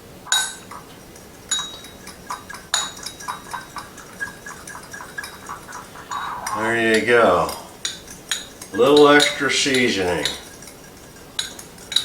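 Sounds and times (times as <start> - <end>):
whisk clinking against a bowl: 0.3 - 12.0.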